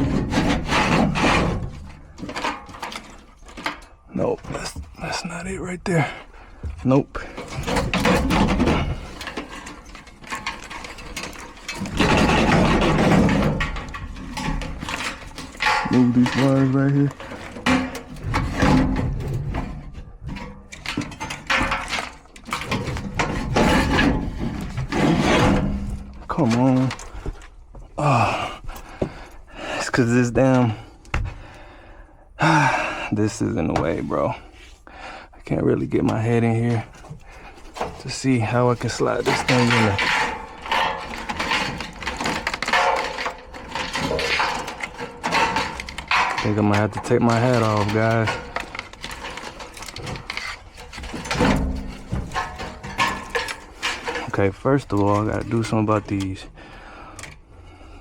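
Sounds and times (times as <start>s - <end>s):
metal parts scraping and knocking: 0.0s - 31.4s, 35.6s - 58.0s.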